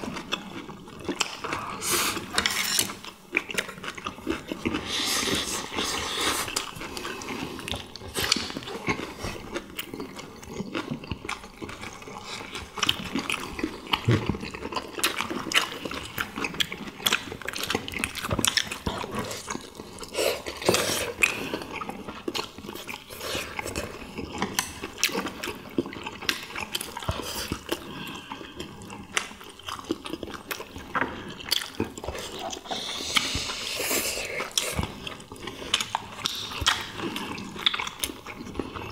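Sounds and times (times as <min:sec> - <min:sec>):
people chewing and slurping: 0:00.0 - 0:38.9.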